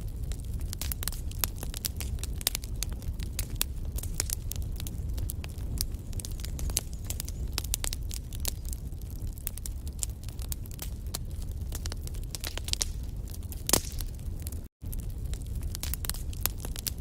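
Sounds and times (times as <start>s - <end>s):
burning logs crackling: 0.0s - 17.0s
low rumble of flames: 0.0s - 17.0s.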